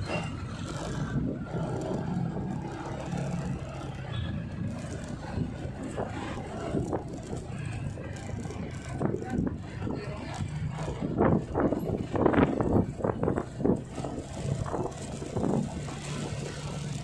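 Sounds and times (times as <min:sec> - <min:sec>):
tyre and road noise: 0:00.0 - 0:17.0
vehicle engines running: 0:00.0 - 0:17.0.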